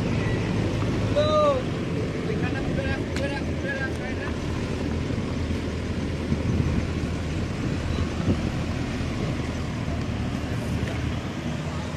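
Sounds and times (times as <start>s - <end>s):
tractor diesel engine rumbling: 0.0s - 11.9s.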